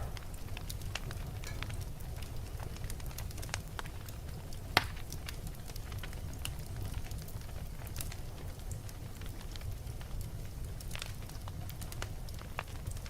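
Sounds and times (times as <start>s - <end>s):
fire crackles and pops: 0.0s - 13.0s
flames rumbling in fireplace: 0.0s - 13.0s.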